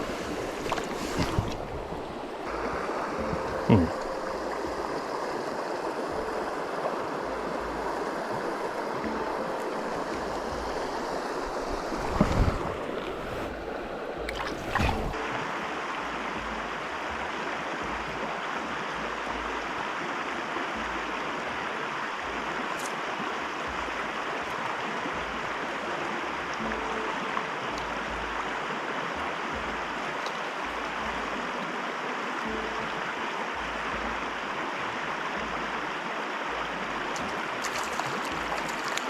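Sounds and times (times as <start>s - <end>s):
stream running over riffles: 0.0s - 39.0s.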